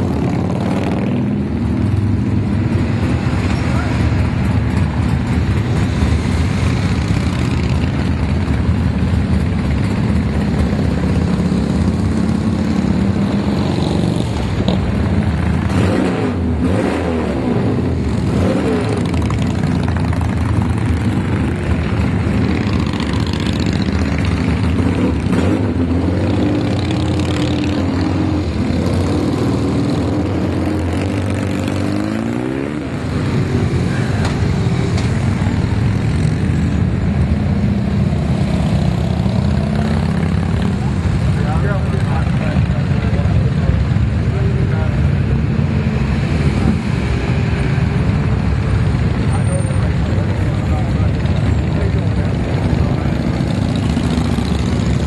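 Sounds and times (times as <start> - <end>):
motorcycles driving past: 0.0 - 55.0.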